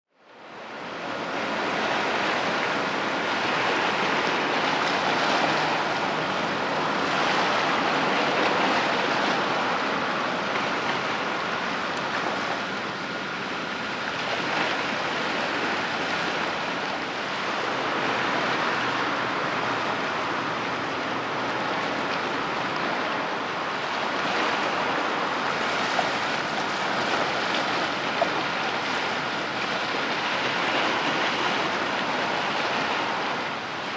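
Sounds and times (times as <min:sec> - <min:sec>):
wind: 0:00.1 - 0:33.9
waves washing on shore: 0:00.2 - 0:33.9.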